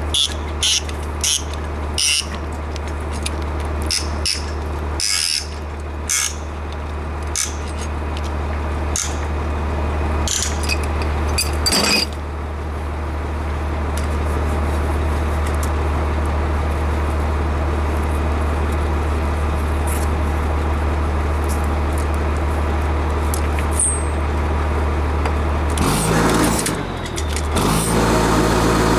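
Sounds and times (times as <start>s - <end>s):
low machine hum: 0.0s - 28.9s.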